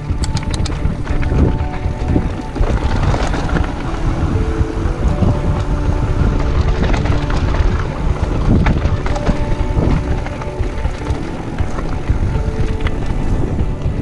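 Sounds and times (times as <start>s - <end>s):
bike rattling over rocky gravel: 0.0s - 14.0s
wind buffeting microphone: 0.0s - 14.0s.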